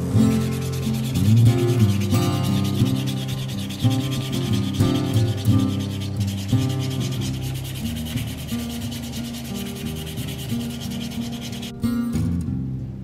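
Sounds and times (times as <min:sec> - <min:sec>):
sanding leather by hand: 0:00.0 - 0:11.8.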